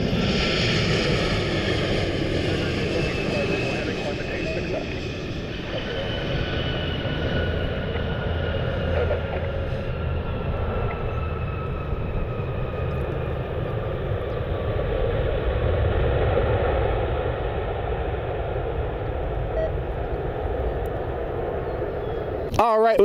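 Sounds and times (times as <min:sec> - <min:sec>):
high jet engine whine: 0:00.0 - 0:23.0
jet engine rumble: 0:00.0 - 0:23.0.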